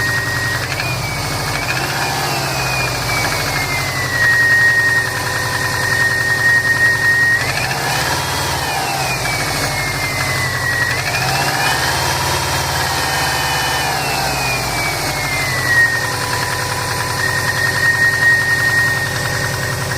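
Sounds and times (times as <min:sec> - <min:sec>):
car engine knocking and revving: 0:00.0 - 0:19.9.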